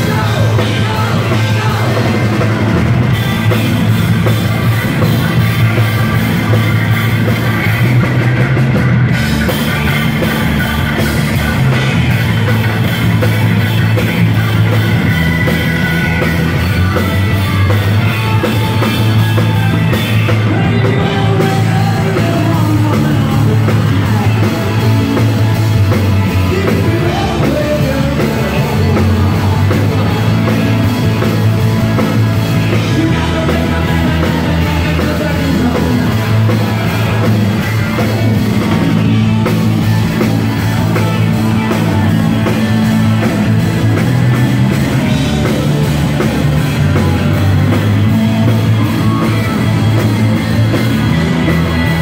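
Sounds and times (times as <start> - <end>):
drum kit: 0.0 - 52.0
electric bass: 0.0 - 52.0
electric guitar: 0.0 - 52.0.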